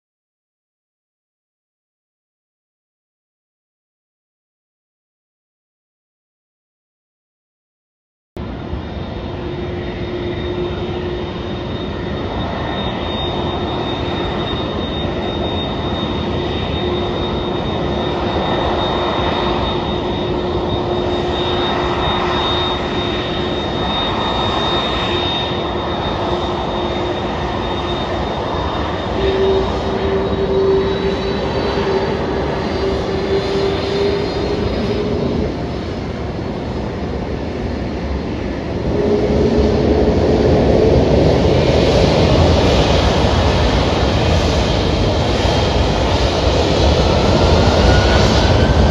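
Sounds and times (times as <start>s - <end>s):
jet engines taxiing with whine: 8.4s - 48.9s.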